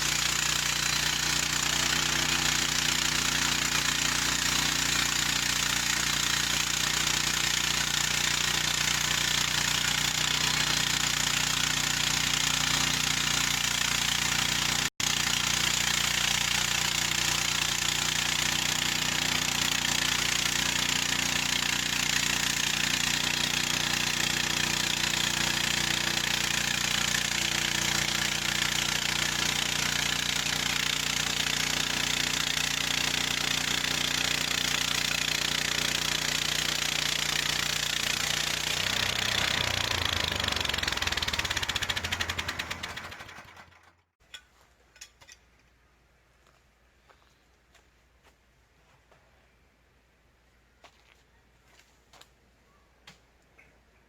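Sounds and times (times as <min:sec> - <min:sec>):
bandsaw mill sawing log: 0:00.0 - 0:44.0.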